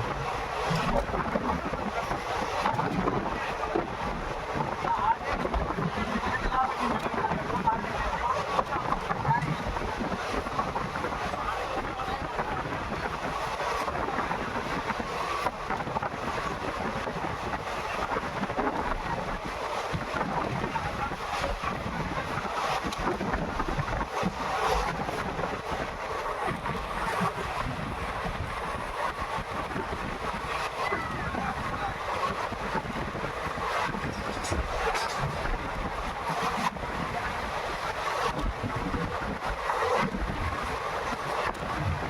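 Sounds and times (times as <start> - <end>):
train wheels on rails: 0.0 - 42.0
wind blowing on microphone: 0.0 - 42.0.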